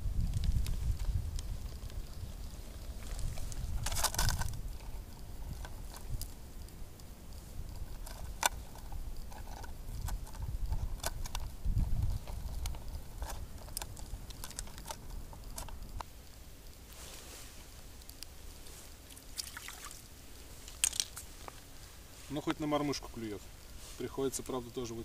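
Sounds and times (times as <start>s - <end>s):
low wind noise on microphone: 0.0s - 25.0s.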